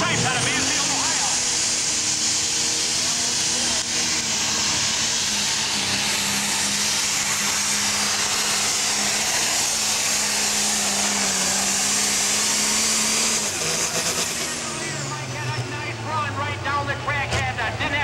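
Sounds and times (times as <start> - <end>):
diesel engine running flat out: 0.0 - 18.0.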